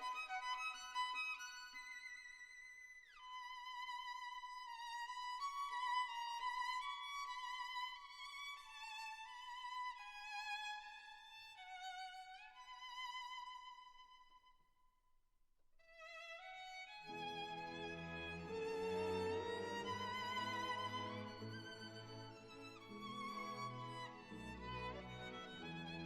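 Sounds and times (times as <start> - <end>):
slow solo violin melody: 0.0 - 14.3, 15.9 - 26.0.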